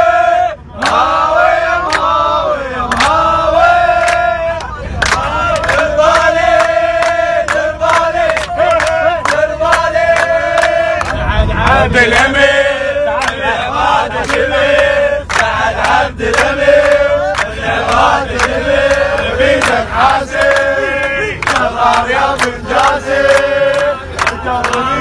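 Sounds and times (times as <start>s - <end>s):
group chanting a song: 0.0s - 25.0s
people clapping: 0.1s - 25.0s.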